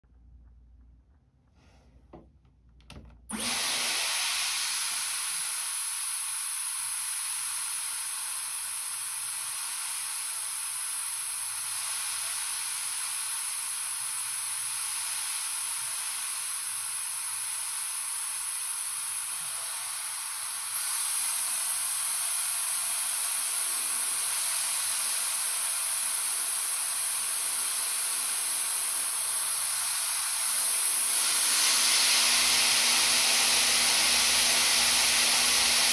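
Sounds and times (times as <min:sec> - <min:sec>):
hair styler motor whine: 0:03.3 - 0:35.9.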